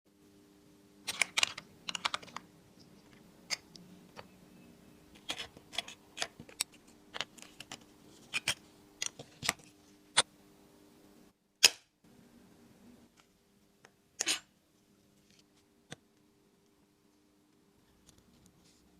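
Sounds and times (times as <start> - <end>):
faint steady hum: 0.1 - 18.9.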